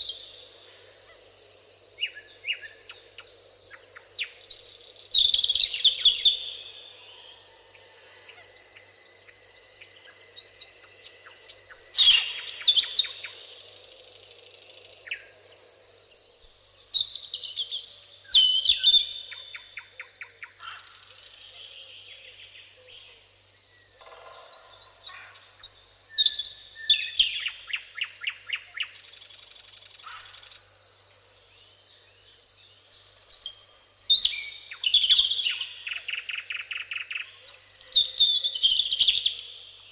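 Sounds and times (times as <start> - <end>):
high insect trill: 0.0 - 39.9
songbirds chirping and trilling: 0.0 - 39.9.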